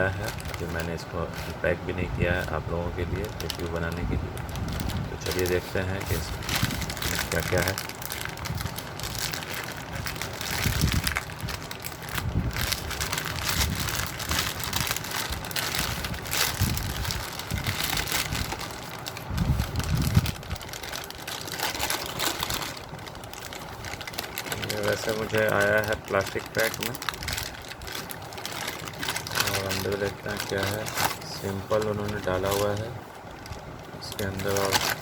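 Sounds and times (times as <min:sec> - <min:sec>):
plastic bag crinkling: 0:00.0 - 0:35.0.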